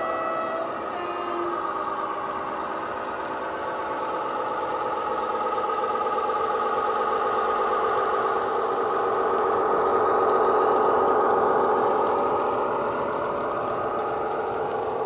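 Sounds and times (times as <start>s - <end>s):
model locomotive engine sound: 0.0s - 15.0s.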